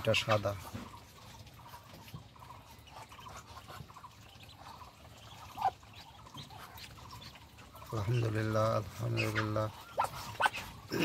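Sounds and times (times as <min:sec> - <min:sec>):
ducklings peeping faintly: 0:00.0 - 0:11.0.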